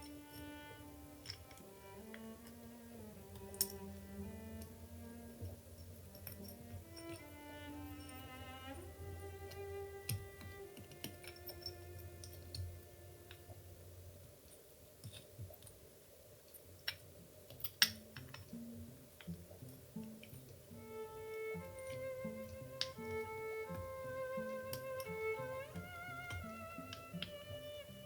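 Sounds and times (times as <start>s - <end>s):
soft background music: 0.0s - 14.4s, 17.8s - 28.0s.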